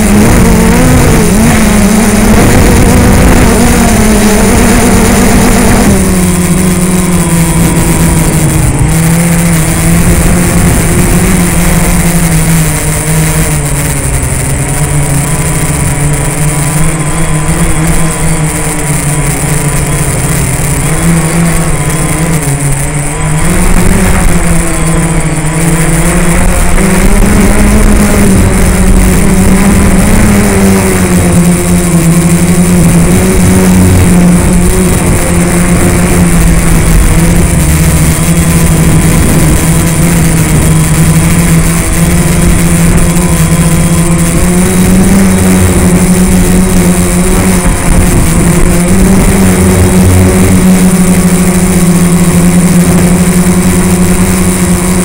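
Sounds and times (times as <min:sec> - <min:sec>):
quadcopter motors humming: 0:00.0 - 0:55.0.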